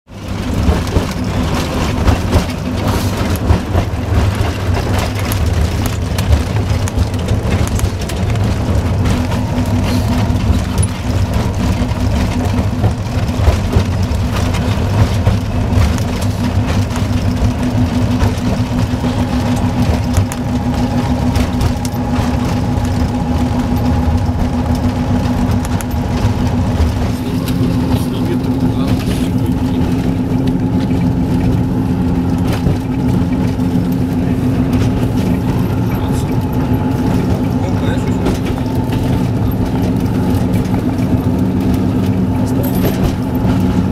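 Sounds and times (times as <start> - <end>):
diesel locomotive engine running: 0.0 - 43.9
knocks and rattles: 0.1 - 43.9.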